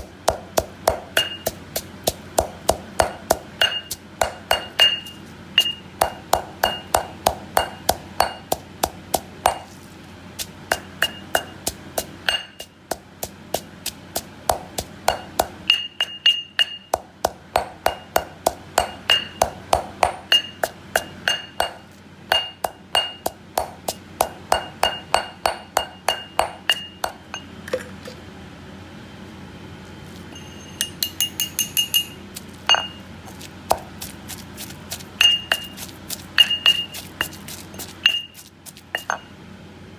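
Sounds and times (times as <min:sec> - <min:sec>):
pestle pounding in a mortar: 0:00.0 - 0:27.4, 0:30.8 - 0:39.3.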